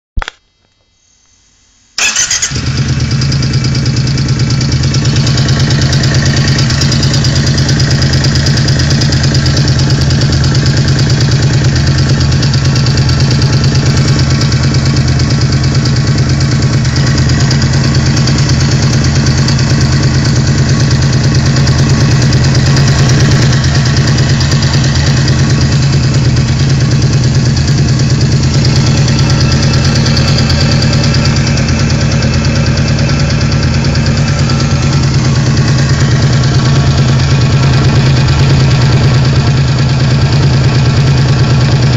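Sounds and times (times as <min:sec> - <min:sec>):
engine running with rattling clatter: 0:02.0 - 0:41.9.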